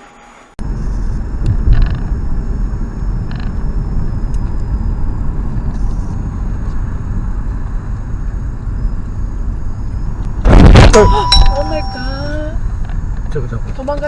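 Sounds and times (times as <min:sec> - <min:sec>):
car engine and road noise: 0:00.4 - 0:14.0.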